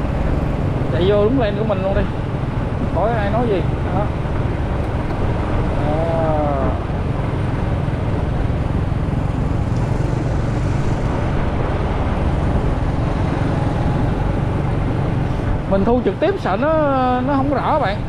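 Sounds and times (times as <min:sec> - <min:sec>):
motorcycle engine rumble: 0:00.0 - 0:18.0
road and wind noise: 0:00.0 - 0:18.0.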